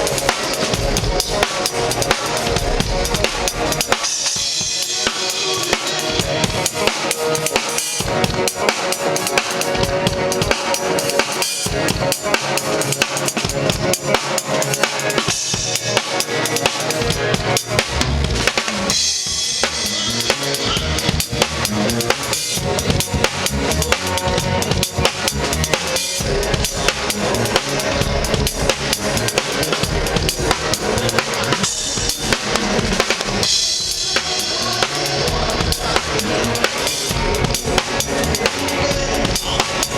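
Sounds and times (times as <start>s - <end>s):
band instruments: 0.0s - 39.9s
drum kit played rapidly: 0.0s - 39.9s.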